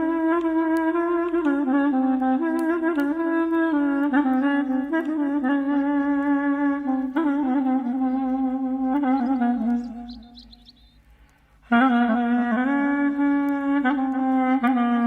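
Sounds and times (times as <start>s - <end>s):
clarinet playing slow melody: 0.0s - 11.0s, 11.6s - 15.0s.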